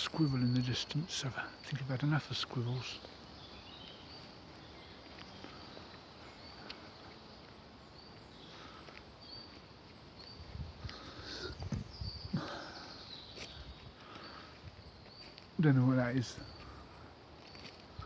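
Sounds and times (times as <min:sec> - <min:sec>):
small birds calling: 0:00.0 - 0:18.0.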